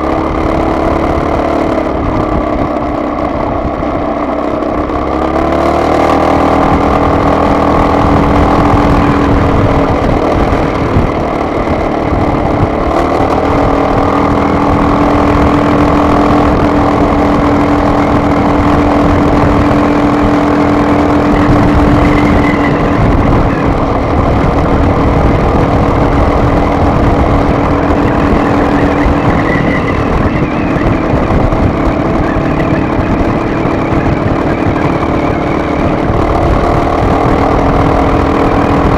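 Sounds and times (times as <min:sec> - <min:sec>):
car engine hum: 0:00.0 - 0:38.9
road noise: 0:00.0 - 0:38.9.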